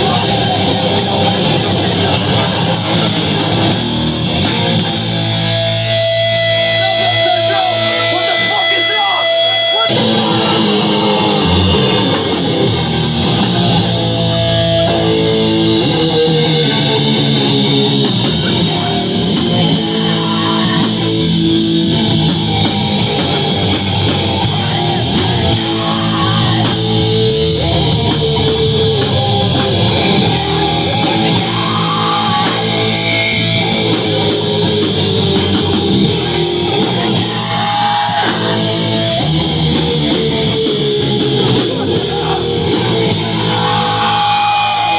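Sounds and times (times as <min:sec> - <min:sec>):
distorted electric guitar riffs: 0:00.0 - 0:44.9
live heavy rock band: 0:00.0 - 0:44.9.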